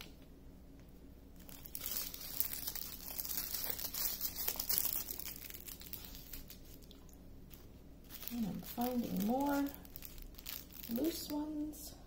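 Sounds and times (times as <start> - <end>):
plastic bags crinkling: 1.4 - 12.0.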